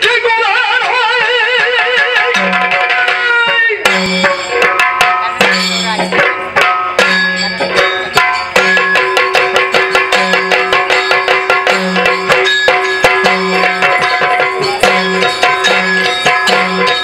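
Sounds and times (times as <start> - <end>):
drums in brisk rhythm: 0.0 - 17.0.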